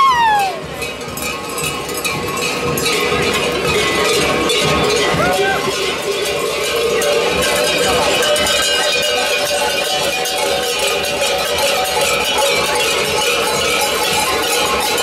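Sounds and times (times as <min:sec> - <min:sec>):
cowbells clanging: 0:00.0 - 0:15.0.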